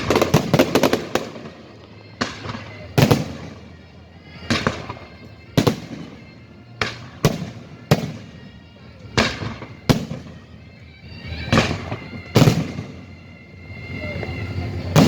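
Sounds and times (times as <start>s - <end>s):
background music: 0.0s - 15.0s
fireworks bangs: 0.0s - 15.0s.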